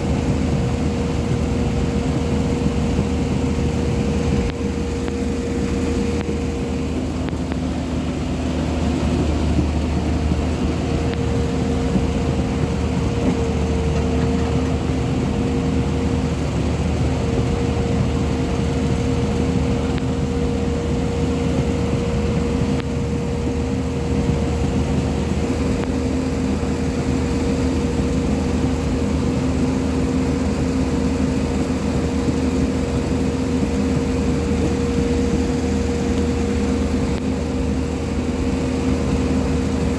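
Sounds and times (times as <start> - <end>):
excavator diesel engine running: 0.0 - 39.9
steady engine whine: 0.0 - 39.9.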